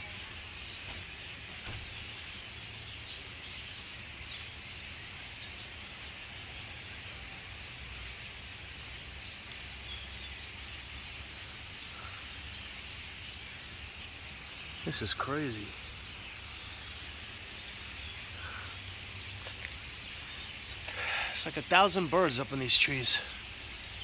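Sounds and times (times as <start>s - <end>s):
flock of birds chirping: 0.0s - 24.0s.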